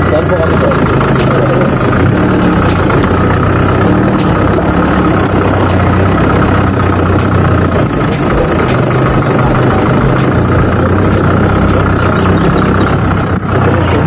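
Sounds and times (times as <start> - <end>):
vehicle engine running: 0.0 - 14.0
light high ticking: 0.8 - 14.0.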